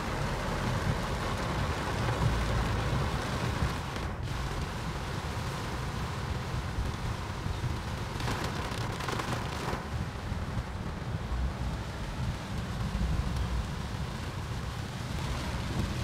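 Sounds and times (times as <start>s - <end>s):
car rumbling on wet road: 0.0s - 16.0s
heavy rain on car roof: 0.0s - 16.0s.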